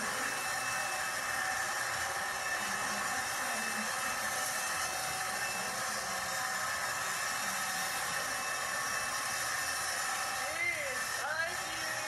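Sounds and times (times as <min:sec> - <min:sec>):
vacuum cleaner hiss: 0:00.0 - 0:12.0.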